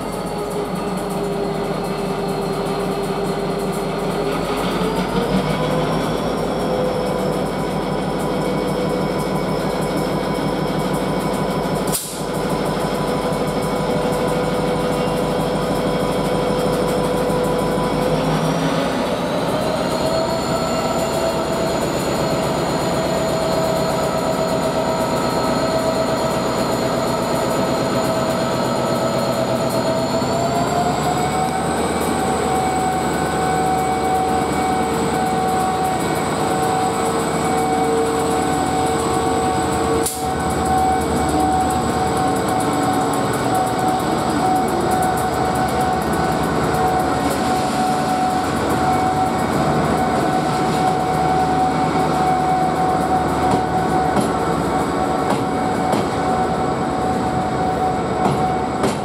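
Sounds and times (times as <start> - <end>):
diesel locomotive engine working hard: 0.0 - 59.0.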